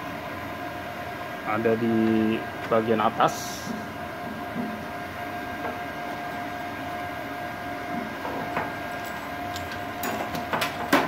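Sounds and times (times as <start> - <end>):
cooling fan whining: 0.0 - 11.0.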